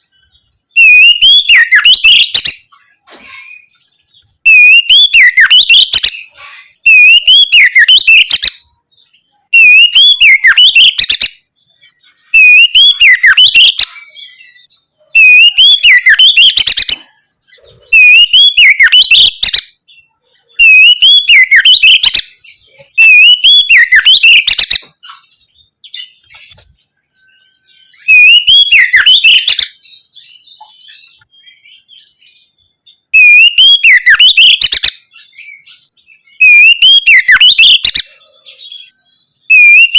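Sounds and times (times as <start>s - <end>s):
bird singing whistled phrases: 0.0s - 2.7s, 3.3s - 26.4s, 27.0s - 39.9s.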